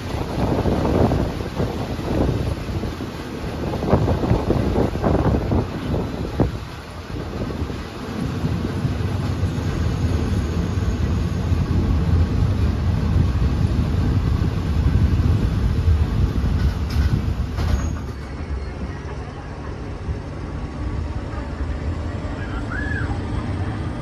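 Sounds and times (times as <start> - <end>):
train rumbling: 0.0 - 24.0
wind noise: 0.0 - 24.0.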